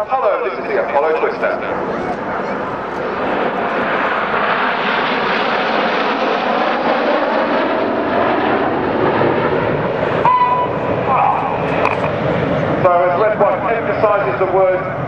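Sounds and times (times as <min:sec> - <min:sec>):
jets flying past overhead: 0:00.0 - 0:15.0.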